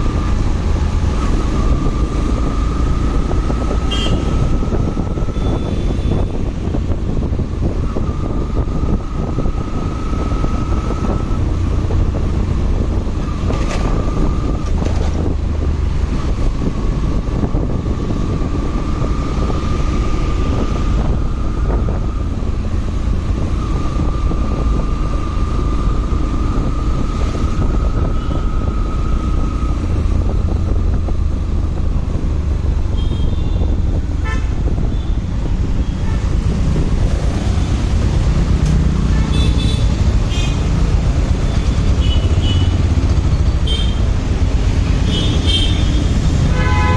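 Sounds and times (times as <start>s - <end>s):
wind noise on microphone: 0.0s - 46.9s.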